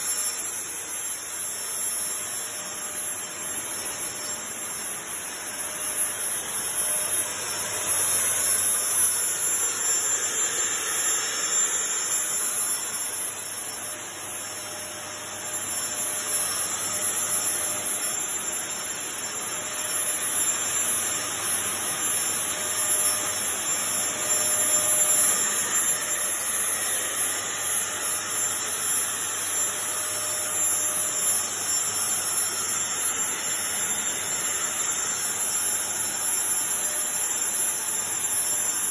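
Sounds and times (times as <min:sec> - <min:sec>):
mist sprayer whining and hissing: 0:00.0 - 0:38.9.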